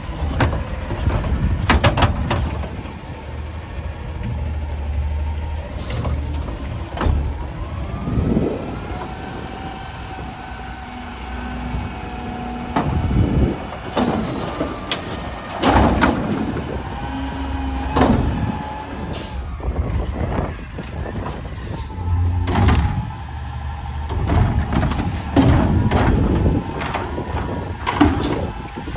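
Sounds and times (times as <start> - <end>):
diesel engine running: 0.0 - 28.9
hydraulic whines: 4.2 - 28.9.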